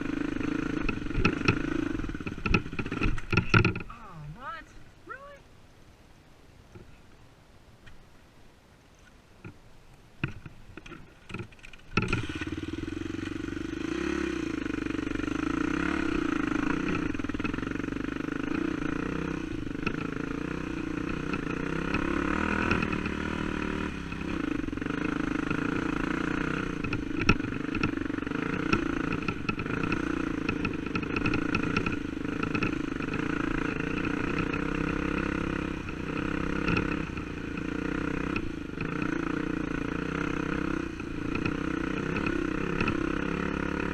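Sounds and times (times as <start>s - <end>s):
dirt bike engine running: 0.0s - 4.6s, 11.0s - 43.9s.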